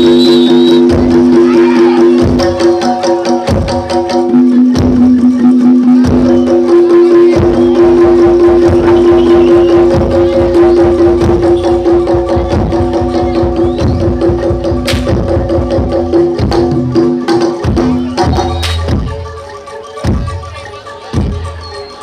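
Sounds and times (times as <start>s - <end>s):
drum and percussion strokes: 0.0s - 22.0s
held melodic notes: 0.0s - 22.0s.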